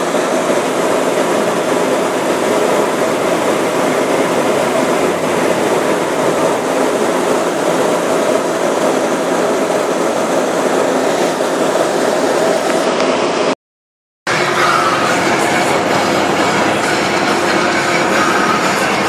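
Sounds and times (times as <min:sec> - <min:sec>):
ferry engine drone: 0:00.0 - 0:13.6, 0:14.3 - 0:19.0.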